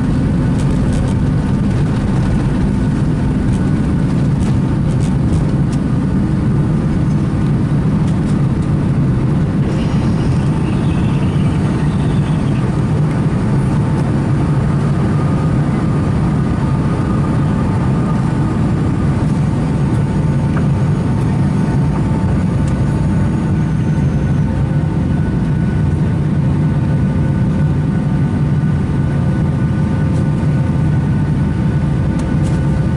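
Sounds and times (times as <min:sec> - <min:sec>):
steady whining tones: 0:00.0 - 0:27.9
low rumble: 0:00.0 - 0:30.0
jet engine drone in cabin: 0:00.0 - 0:32.9.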